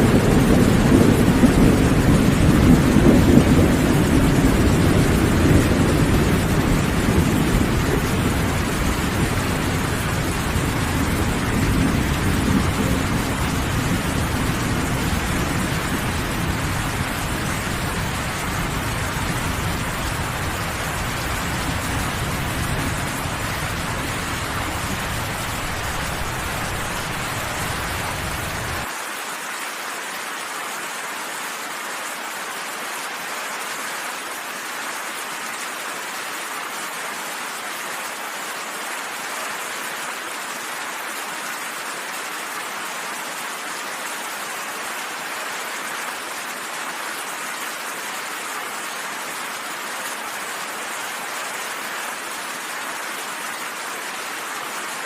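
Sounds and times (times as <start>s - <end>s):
dense rainfall: 0.0s - 55.0s.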